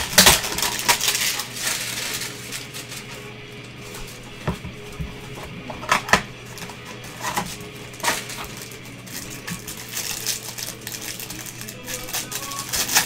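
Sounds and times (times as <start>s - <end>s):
cards crackling in hands: 0.0s - 13.0s.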